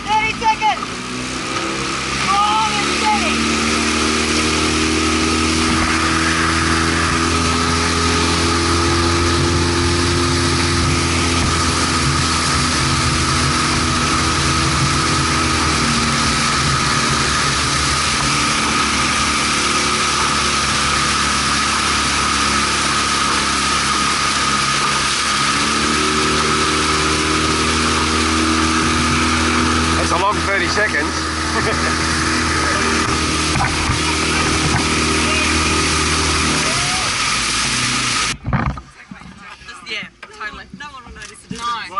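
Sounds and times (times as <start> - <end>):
boat outboard motor running: 0.0 - 41.9.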